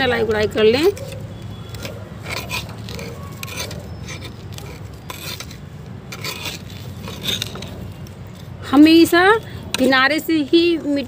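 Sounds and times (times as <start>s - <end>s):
hoe scraping garden soil: 0.0s - 10.3s.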